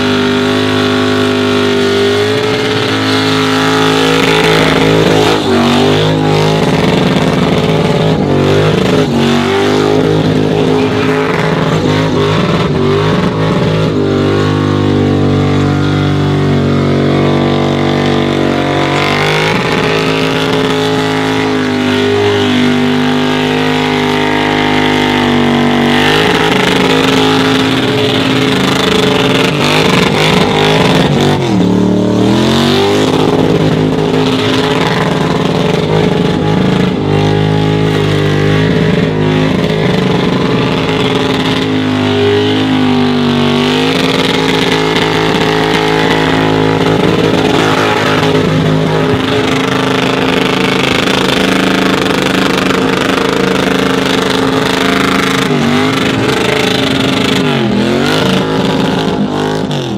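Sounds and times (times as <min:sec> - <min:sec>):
car engine revving high: 0:00.0 - 0:59.9.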